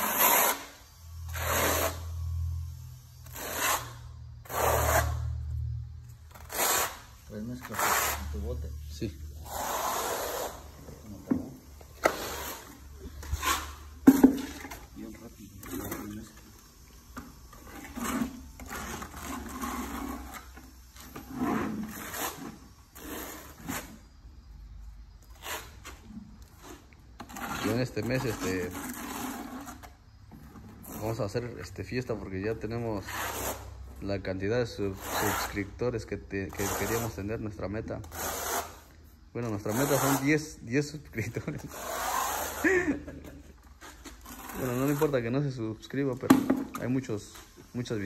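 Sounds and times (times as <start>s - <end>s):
trowel scraping mortar: 0.0s - 2.2s, 3.2s - 5.4s, 6.3s - 24.2s, 25.3s - 33.7s, 34.7s - 48.0s.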